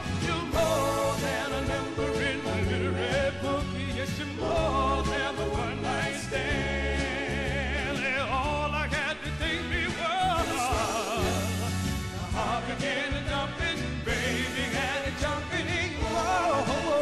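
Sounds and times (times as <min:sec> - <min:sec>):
instrumental backing with bass: 0:00.0 - 0:17.0
male vocal group singing: 0:00.0 - 0:17.0.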